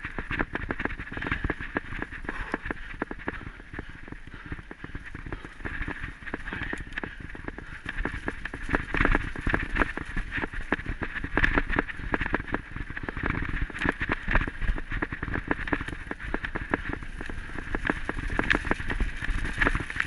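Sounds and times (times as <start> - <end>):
wind rushing on microphone: 0.0 - 20.0.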